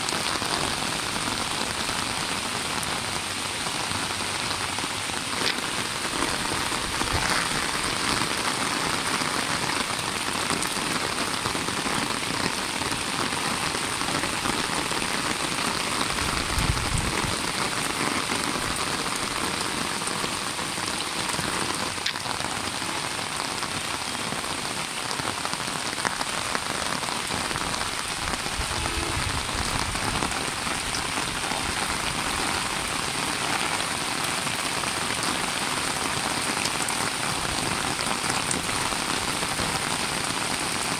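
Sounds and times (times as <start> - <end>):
rain on leaves and roof: 0.0 - 40.9.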